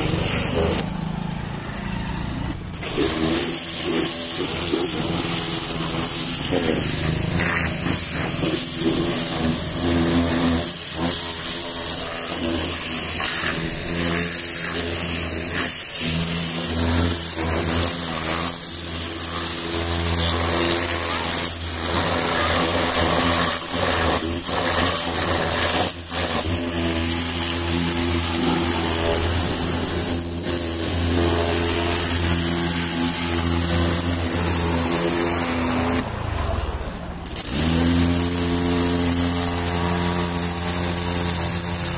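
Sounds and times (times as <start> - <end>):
water jet spraying hiss: 0.0 - 0.8, 2.8 - 36.2, 37.3 - 41.9
pressure washer motor hum: 0.0 - 41.9.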